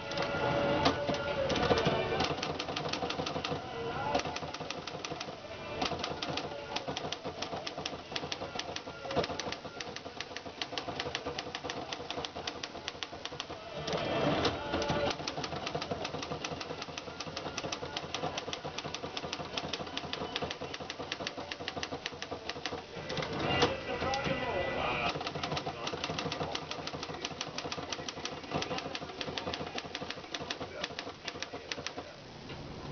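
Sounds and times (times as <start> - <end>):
typewriter keys clacking: 0.0 - 24.4, 25.1 - 32.1
typewriter rattle: 0.1 - 24.4, 25.1 - 32.1.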